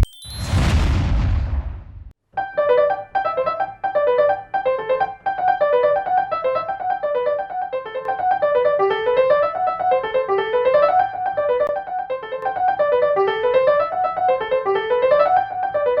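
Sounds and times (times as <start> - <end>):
piano-style keyboard music: 2.4 - 16.0.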